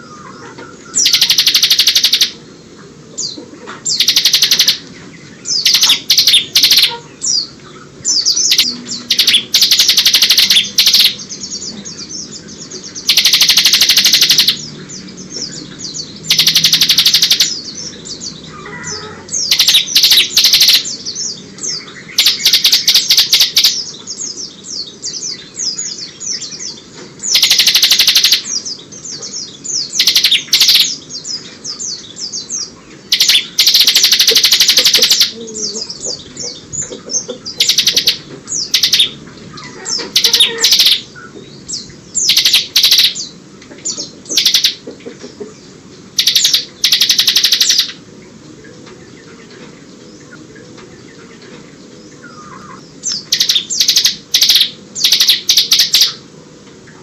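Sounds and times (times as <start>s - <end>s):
bird chirps: 0.0s - 2.5s, 3.2s - 48.0s, 49.0s - 56.2s
bird singing rapid high trills: 0.8s - 44.8s, 45.7s - 49.4s, 51.9s - 56.3s.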